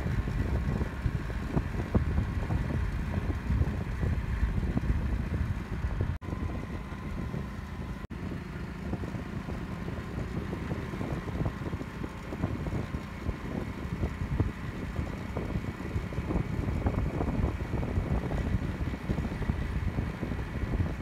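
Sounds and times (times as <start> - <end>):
motorcycle engine running: 0.0 - 21.0
wind rumbling on microphone: 0.0 - 21.0.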